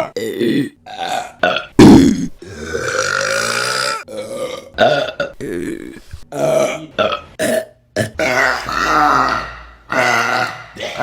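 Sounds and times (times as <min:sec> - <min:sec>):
woman burping: 0:00.0 - 0:11.0.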